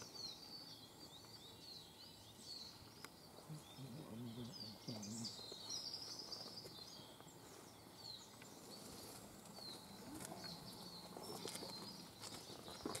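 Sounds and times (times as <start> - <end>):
birds twittering: 0.0 - 13.0
small birds chirping: 0.0 - 13.0.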